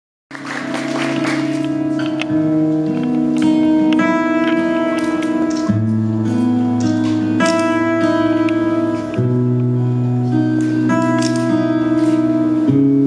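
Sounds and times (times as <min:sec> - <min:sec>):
acoustic guitar chords: 0:00.3 - 0:13.0.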